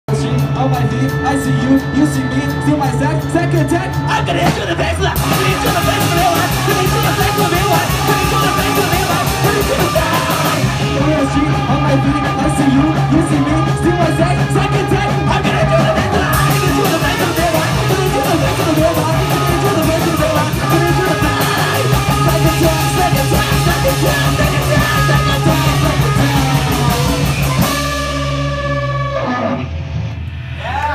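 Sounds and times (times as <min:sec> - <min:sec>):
vocals: 0:00.0 - 0:30.9
punk rock band playing: 0:00.1 - 0:30.8.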